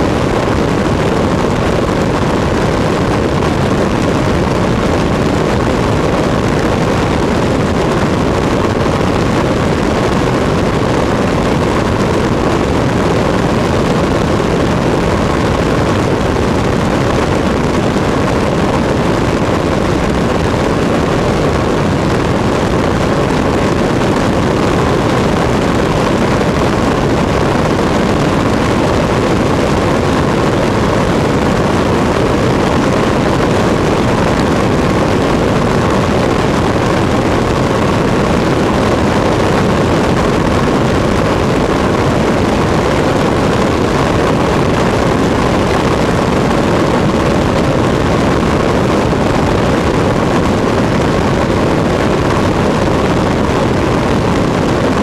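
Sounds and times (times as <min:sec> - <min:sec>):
aircraft engine and propeller drone: 0:00.0 - 0:55.0
airflow rushing over microphone: 0:00.0 - 0:55.0.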